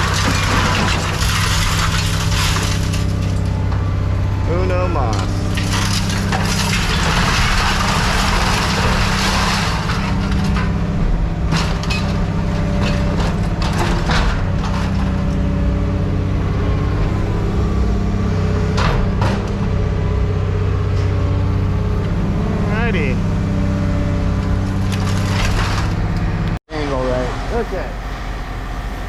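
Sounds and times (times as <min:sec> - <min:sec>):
scrap shear humming: 0:00.0 - 0:29.0.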